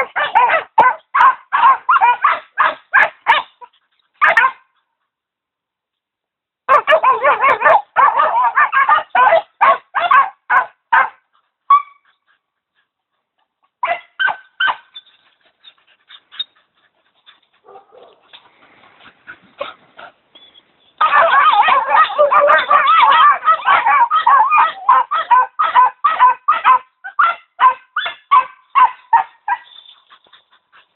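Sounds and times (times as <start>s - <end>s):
puppies barking and yapping: 0.0s - 4.7s, 6.7s - 30.9s.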